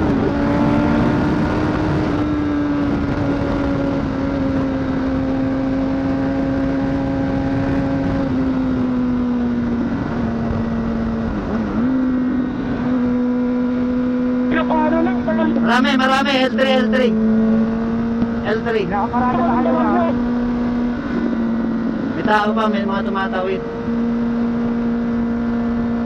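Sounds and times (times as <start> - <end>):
motorcycle engine running: 0.0 - 26.0
wind rush on microphone: 0.0 - 26.0.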